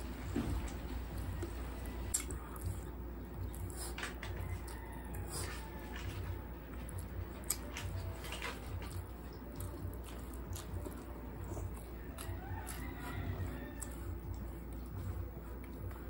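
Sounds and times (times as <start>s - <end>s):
low steady hum: 0.0s - 16.0s
person chewing food: 0.0s - 16.0s.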